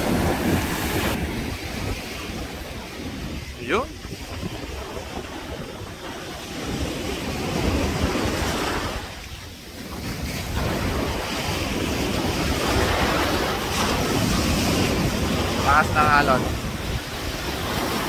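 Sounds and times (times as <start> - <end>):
sea surf breaking: 0.0 - 18.0
wind buffeting microphone: 0.0 - 18.0.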